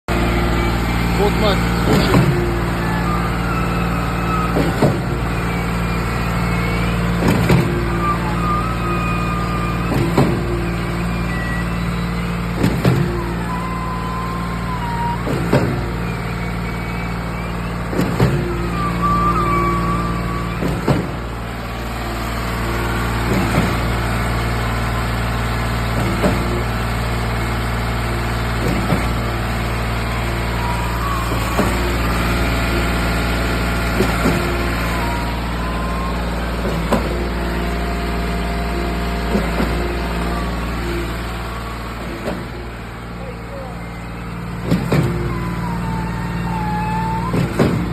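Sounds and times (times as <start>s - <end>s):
machine hum: 0.0s - 47.9s
short high squeal: 0.1s - 25.1s, 29.7s - 47.9s.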